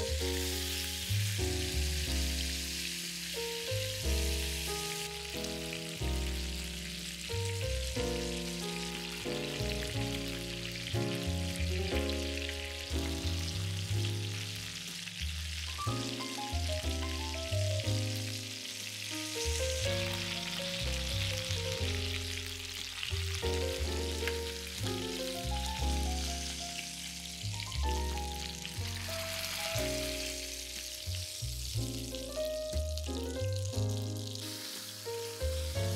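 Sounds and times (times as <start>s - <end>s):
background music melody: 0.0s - 35.9s
chicken sizzling in hot oil: 0.0s - 35.9s.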